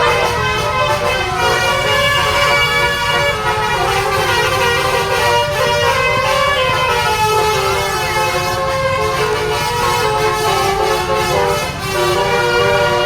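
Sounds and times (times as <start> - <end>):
engine rumble: 0.0 - 13.0
multi-tone bus horn playing a tune: 0.0 - 13.0.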